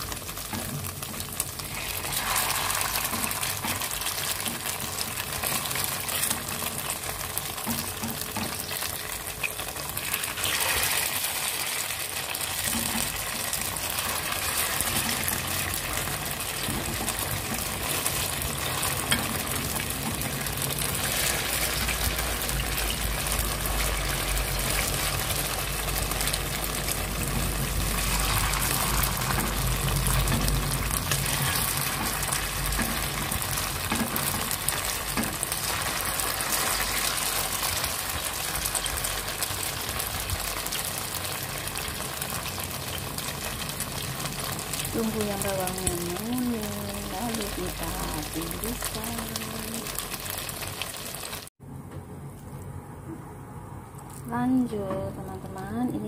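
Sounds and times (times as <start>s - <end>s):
fritters sizzling in hot oil: 0.0s - 51.6s.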